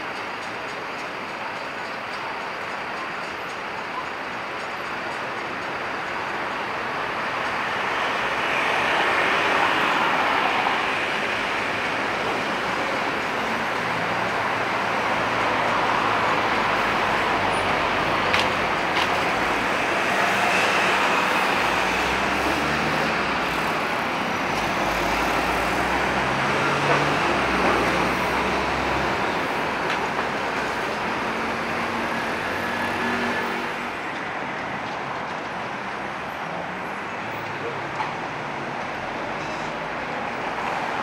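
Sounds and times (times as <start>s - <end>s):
traffic on cobblestones: 0.0s - 41.0s.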